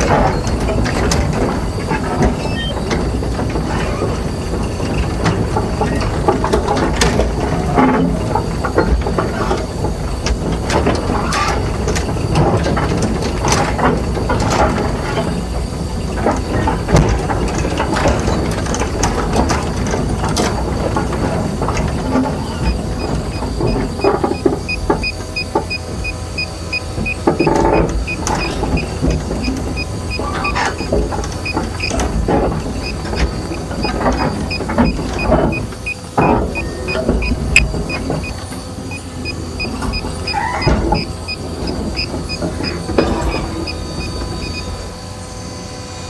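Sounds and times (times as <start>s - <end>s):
excavator diesel engine rumble: 0.0s - 46.0s
steel tracks clanking: 0.0s - 46.0s.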